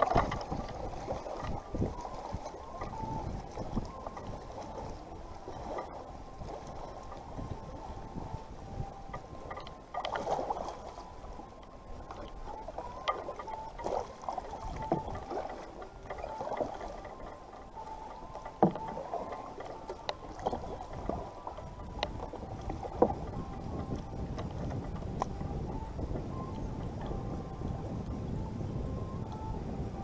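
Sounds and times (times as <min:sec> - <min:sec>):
waves lapping against plastic hull: 0:00.0 - 0:28.5.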